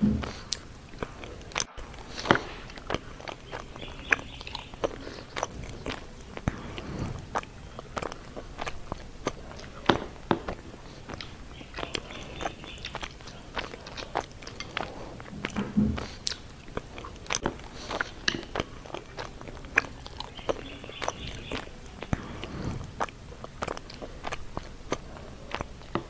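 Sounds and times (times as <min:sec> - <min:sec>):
person chewing: 0:00.0 - 0:26.0.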